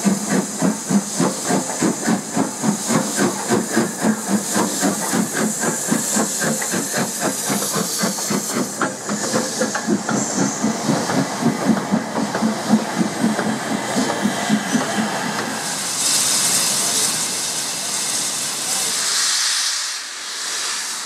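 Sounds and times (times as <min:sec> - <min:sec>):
steam hissing: 0:00.0 - 0:21.0
steam locomotive exhaust beat: 0:00.0 - 0:21.0.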